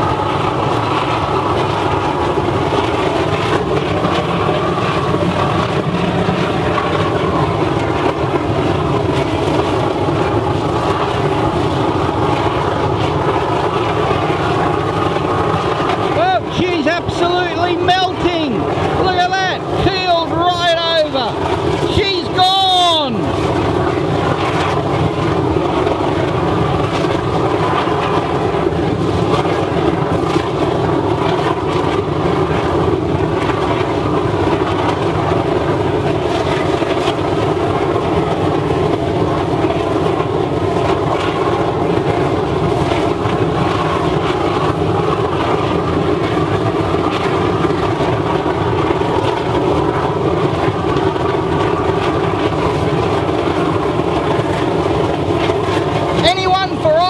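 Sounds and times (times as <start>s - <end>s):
oil burner firing: 0.0s - 57.0s.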